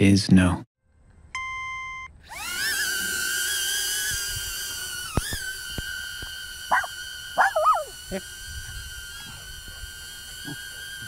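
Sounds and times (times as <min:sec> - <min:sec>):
drone propellers whining: 0:02.1 - 0:11.0.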